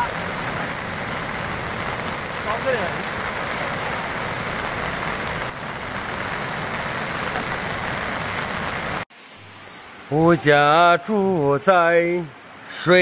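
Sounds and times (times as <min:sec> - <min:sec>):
floodwater rushing: 0:00.0 - 0:13.0
rain: 0:00.0 - 0:13.0.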